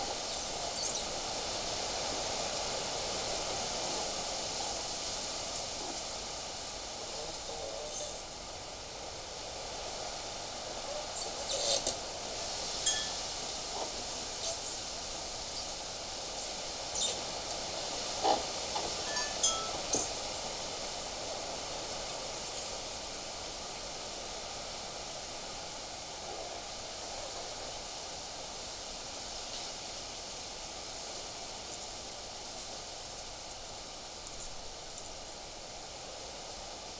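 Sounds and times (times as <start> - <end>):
wind hiss: 0.0 - 36.9.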